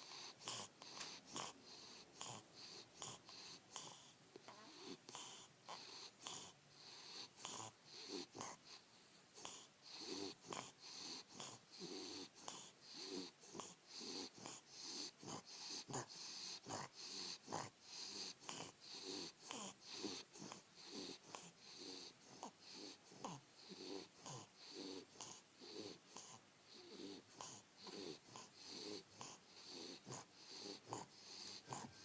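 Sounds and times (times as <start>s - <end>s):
dog snoring: 0.0s - 32.0s.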